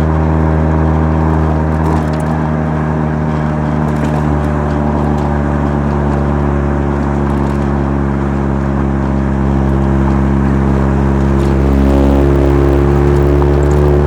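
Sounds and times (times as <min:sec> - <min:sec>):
rotary engine exhaust note: 0:00.0 - 0:14.0.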